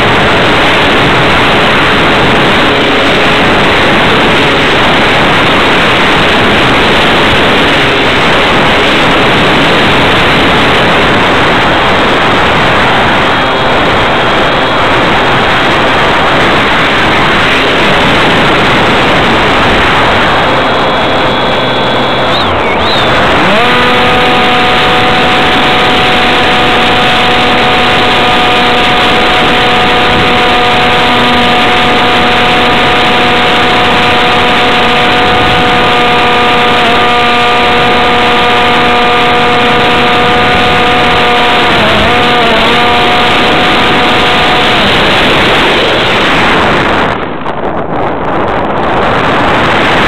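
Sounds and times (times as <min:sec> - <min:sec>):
electric motor and propeller whine: 0:00.0 - 0:50.0
wind rush on microphone: 0:00.0 - 0:50.0.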